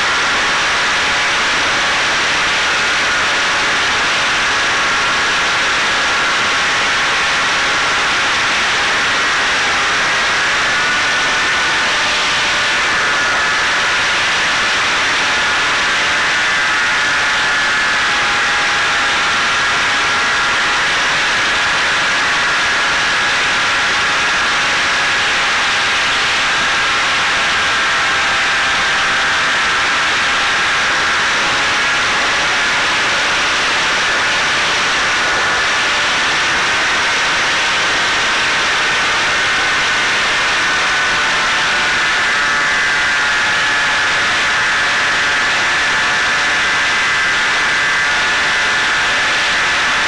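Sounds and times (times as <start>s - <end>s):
drone motor high whine: 0.0s - 50.0s.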